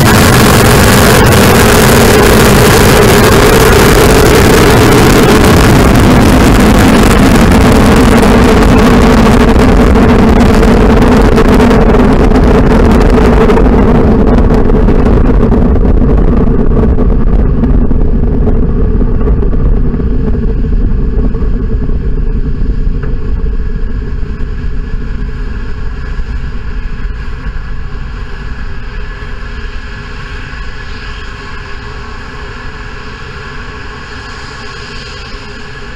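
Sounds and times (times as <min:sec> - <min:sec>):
rocket engines rumbling: 0:00.0 - 0:35.9.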